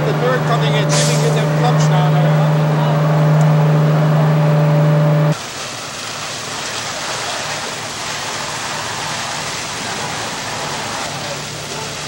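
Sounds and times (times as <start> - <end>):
fire engines droning: 0.0 - 12.0
hoses spraying water: 0.0 - 12.0.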